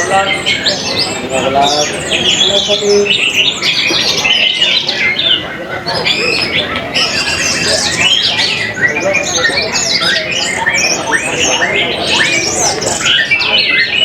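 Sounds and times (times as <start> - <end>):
thrushes singing: 0.0 - 14.0.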